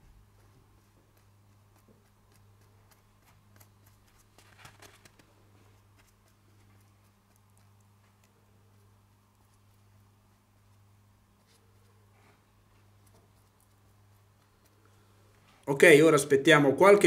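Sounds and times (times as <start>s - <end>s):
brush scratching on rubber: 0.0s - 15.1s
steady low hum: 0.0s - 16.6s.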